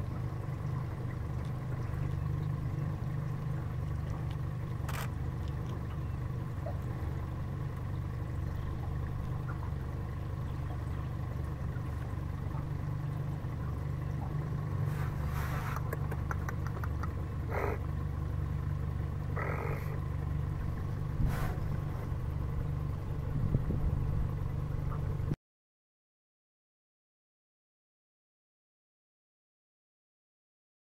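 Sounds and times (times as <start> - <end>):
boat motor idling: 0.0 - 25.4.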